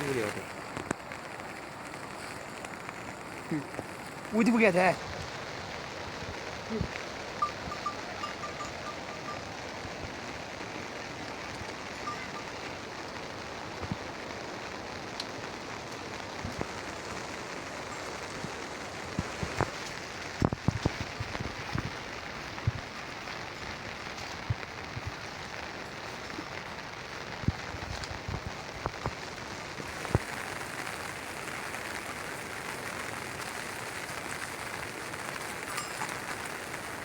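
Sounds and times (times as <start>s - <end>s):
close raindrops landing: 0.0s - 37.0s
steady rain falling: 0.0s - 37.0s.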